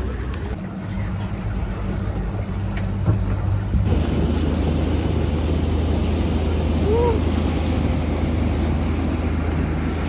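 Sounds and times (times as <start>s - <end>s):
motorboat engine droning: 0.0s - 10.0s
water rushing past boat: 0.0s - 10.0s
wind: 0.0s - 10.0s.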